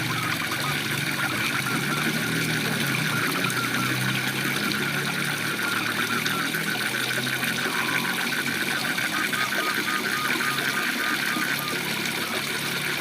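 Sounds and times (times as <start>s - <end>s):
frogs trilling: 0.0s - 13.0s.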